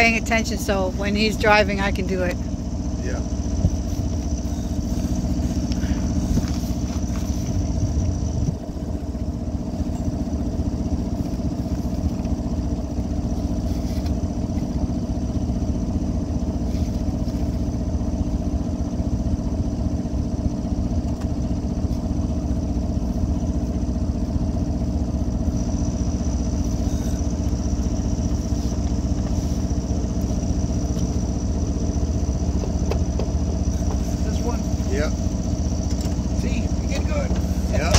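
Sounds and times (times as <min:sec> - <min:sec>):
boat engine droning: 0:00.0 - 0:37.9.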